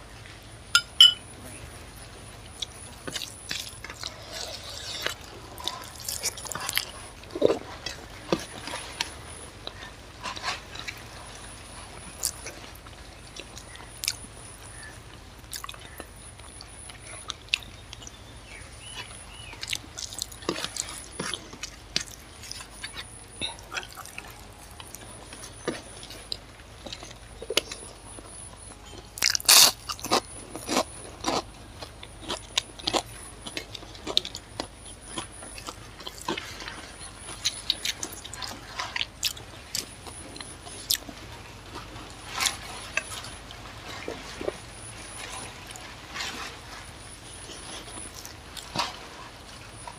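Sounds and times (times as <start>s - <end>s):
person chewing: 2.5s - 12.7s, 13.4s - 18.2s, 18.8s - 46.6s, 47.3s - 49.9s.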